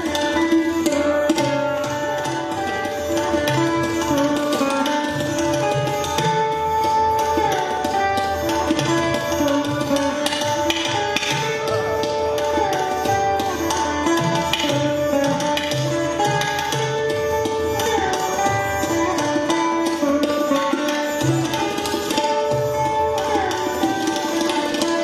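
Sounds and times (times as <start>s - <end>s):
tabla strokes: 0.0s - 25.0s.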